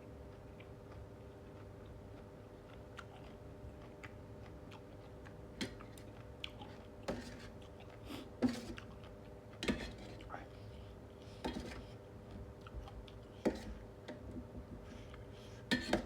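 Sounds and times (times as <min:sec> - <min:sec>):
person chewing and eating: 0:00.1 - 0:15.7.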